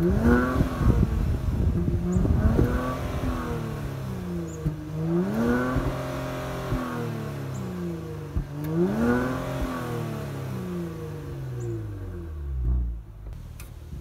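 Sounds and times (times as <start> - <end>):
car engine revving: 0.0 - 14.0
exhaust cracks: 0.0 - 14.0.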